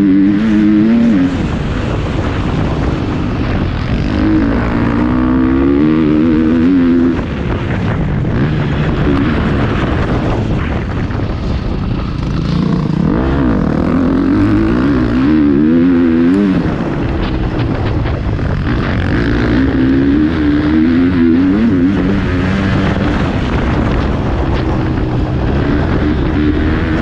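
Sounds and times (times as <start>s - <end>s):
motocross bike engine revving: 0.0s - 27.0s
riding noise: 0.0s - 27.0s.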